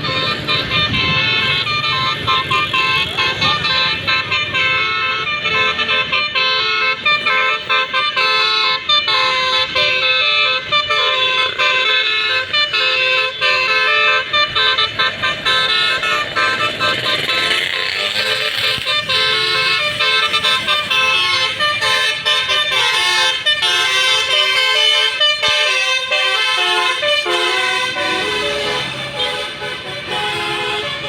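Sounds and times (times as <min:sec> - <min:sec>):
musical air horn melody: 0:00.0 - 0:31.0.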